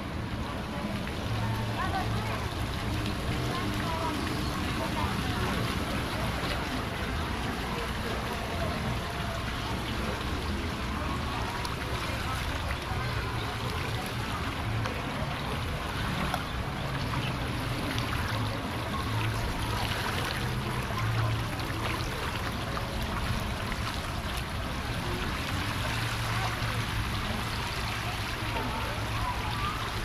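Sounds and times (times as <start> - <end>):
fountain jets spraying: 0.0 - 30.0.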